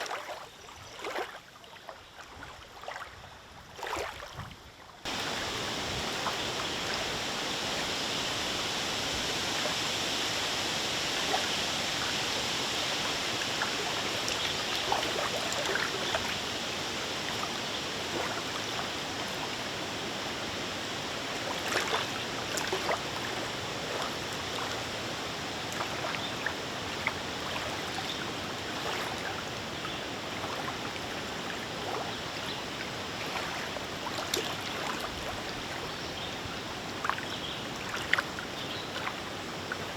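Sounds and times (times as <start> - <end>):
lake water lapping: 0.0 - 39.9
splashes against the shore: 0.0 - 39.9.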